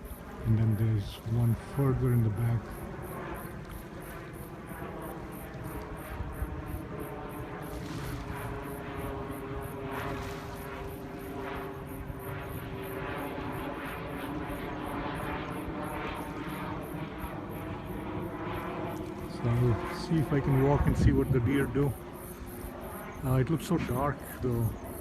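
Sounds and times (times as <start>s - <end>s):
insects chirping: 0.0s - 25.0s
propeller plane engine droning: 0.0s - 25.0s.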